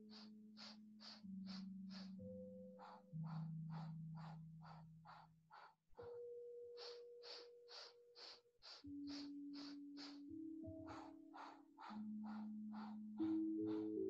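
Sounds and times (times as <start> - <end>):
rapid rhythmic breathing: 0.0 - 14.0
soft background music: 0.0 - 14.0.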